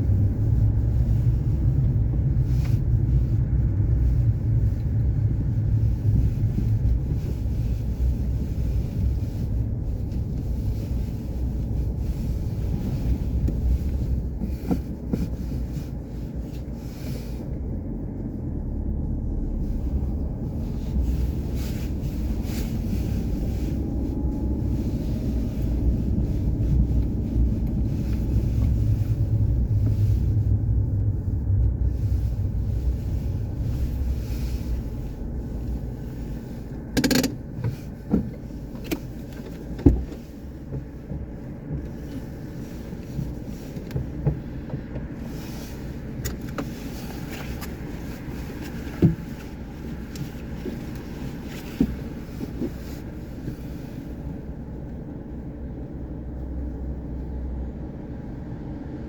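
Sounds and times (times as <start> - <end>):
vehicle engine rumbling: 0.0 - 59.0.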